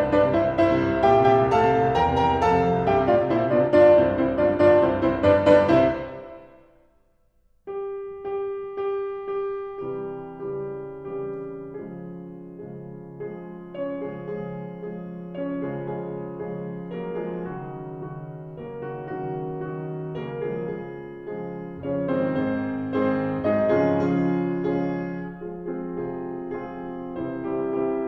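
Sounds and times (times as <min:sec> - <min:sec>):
classical piano music: 0:00.0 - 0:06.9, 0:07.6 - 0:28.0.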